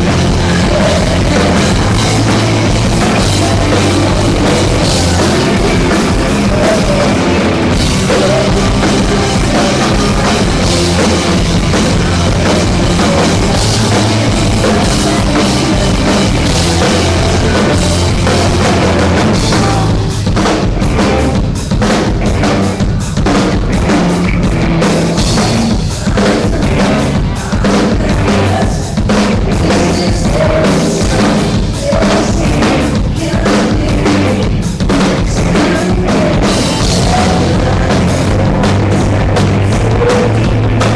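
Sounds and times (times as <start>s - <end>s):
rock band playing loudly: 0.0s - 40.9s.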